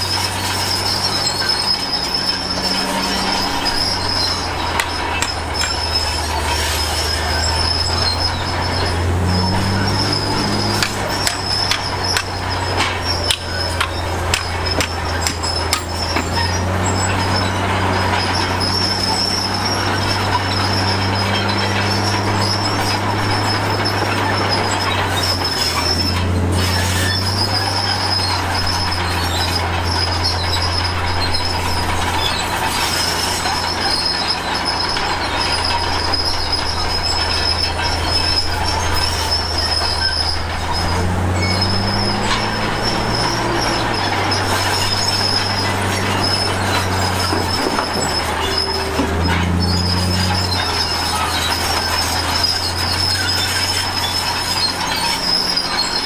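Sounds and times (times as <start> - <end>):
diesel engine under load: 0.0 - 56.0
steel tracks squealing and clanking: 0.0 - 56.0.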